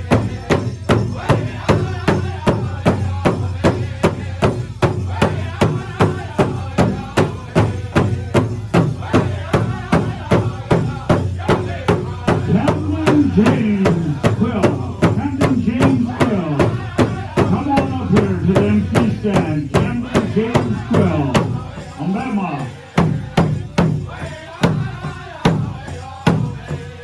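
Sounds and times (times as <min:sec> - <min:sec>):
big drum steady beat: 0:00.0 - 0:27.0
people singing: 0:00.0 - 0:27.0.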